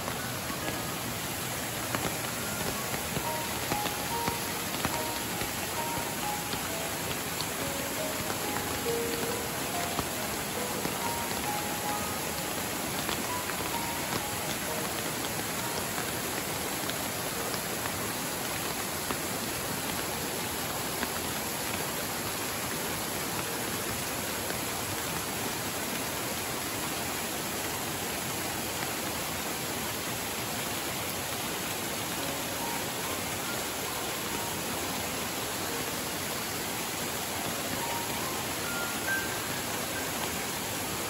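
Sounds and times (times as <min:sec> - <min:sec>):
fast-flowing river: 0:00.0 - 0:41.0
waterfalls splashing: 0:00.0 - 0:41.0.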